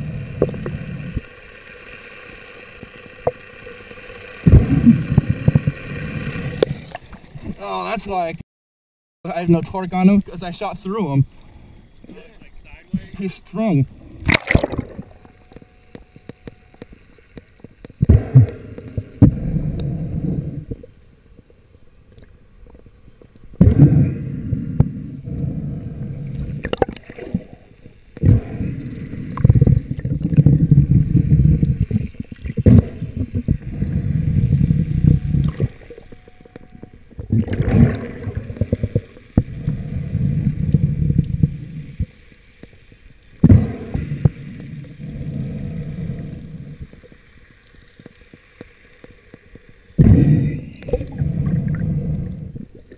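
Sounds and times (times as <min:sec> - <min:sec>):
underwater rushing water: 0:00.0 - 0:08.4, 0:09.3 - 0:52.9.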